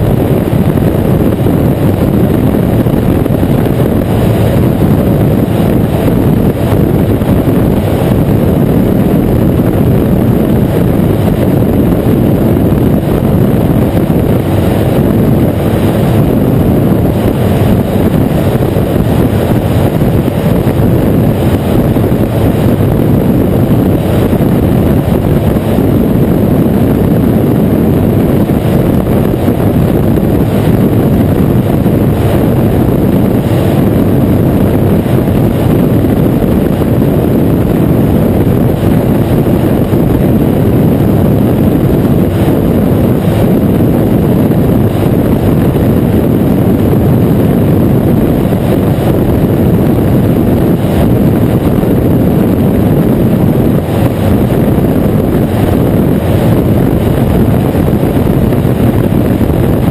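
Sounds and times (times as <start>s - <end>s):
engine drone: 0.0s - 59.9s
wind buffeting microphone: 0.0s - 59.9s.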